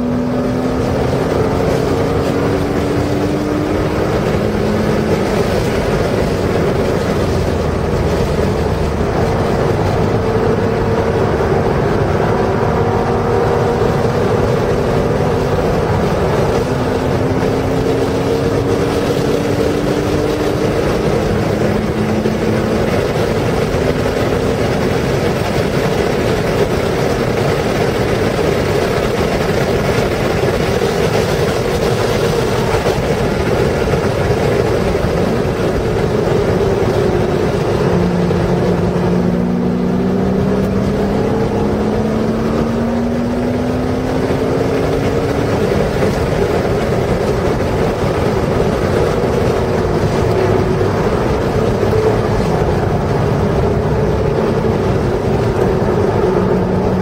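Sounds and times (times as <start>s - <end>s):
car engine running hard: 0.0s - 57.0s
wind and road noise: 0.0s - 57.0s.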